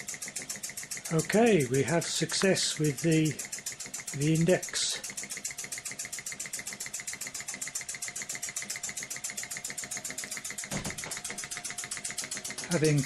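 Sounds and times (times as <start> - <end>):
model engine clicking steadily: 0.0 - 13.0.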